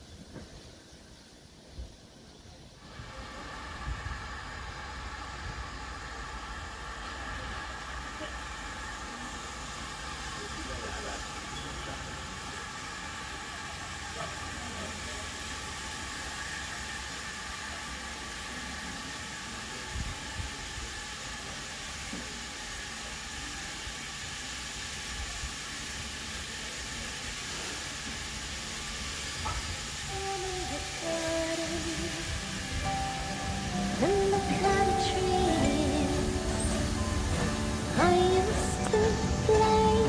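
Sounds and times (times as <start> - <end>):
steam hissing: 0.0 - 40.0.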